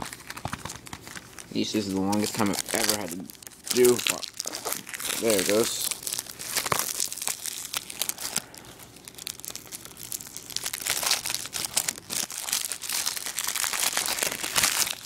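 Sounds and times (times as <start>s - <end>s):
plastic wrap crinkling and tearing: 0.0s - 15.0s.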